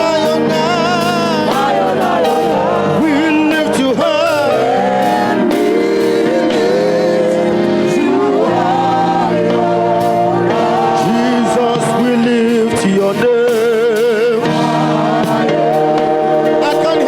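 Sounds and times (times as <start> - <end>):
gospel singing with vibrato: 0.0 - 17.0
sustained instrumental accompaniment: 0.0 - 17.0.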